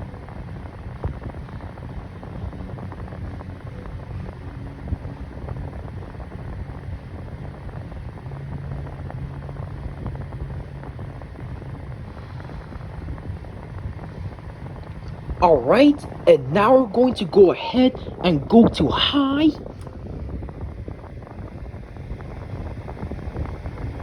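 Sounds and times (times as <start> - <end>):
box fan running: 0.0 - 24.0.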